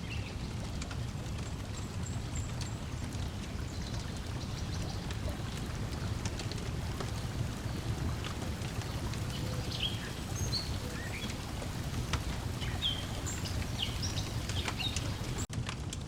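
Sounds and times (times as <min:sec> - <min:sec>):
water lapping: 0:00.0 - 0:15.5
wood fire crackling: 0:00.0 - 0:16.0.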